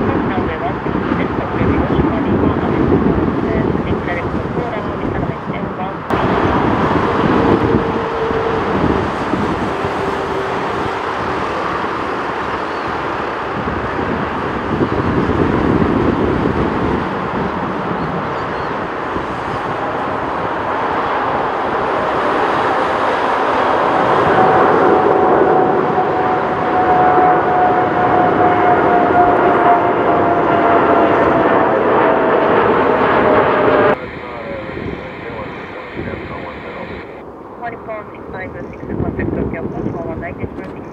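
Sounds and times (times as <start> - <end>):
jet engines at takeoff: 0.0 - 40.9.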